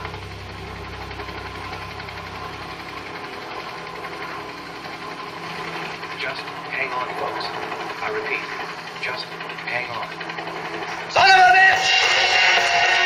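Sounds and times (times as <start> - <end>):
helicopter engine drone from cabin: 0.0 - 13.0.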